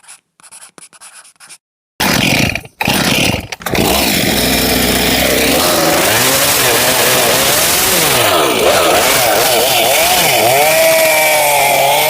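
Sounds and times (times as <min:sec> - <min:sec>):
firewood cutting machine running: 0:02.1 - 0:12.0.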